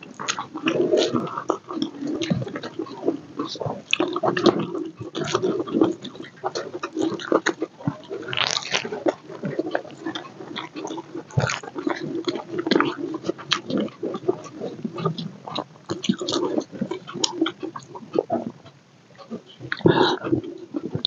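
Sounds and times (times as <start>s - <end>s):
person chewing and lip-smacking: 0.1s - 21.0s.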